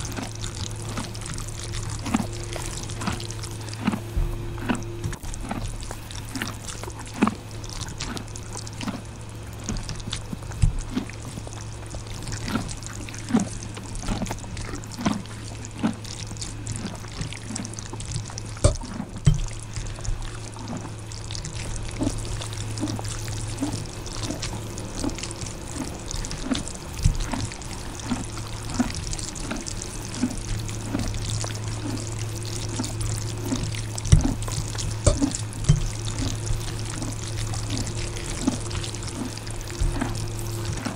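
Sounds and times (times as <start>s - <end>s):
noodle slurps: 0.0s - 40.9s
wet chewing: 0.0s - 40.9s.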